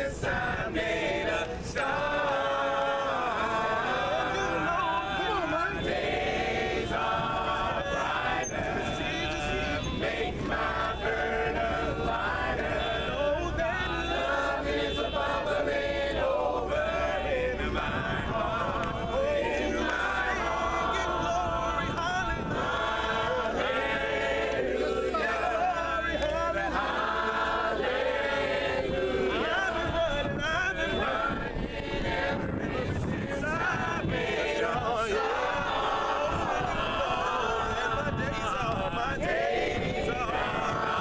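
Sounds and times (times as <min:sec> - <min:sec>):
congregation singing a hymn: 0:00.0 - 0:41.0.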